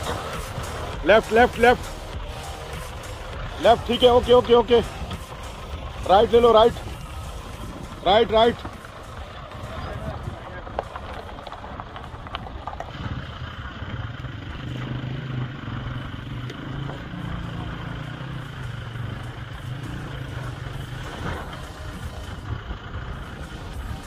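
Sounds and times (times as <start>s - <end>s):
truck engine humming: 0.0s - 24.0s.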